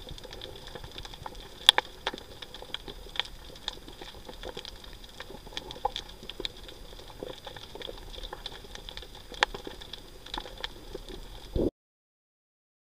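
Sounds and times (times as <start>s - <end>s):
underwater clicks and crackles: 0.0s - 11.7s.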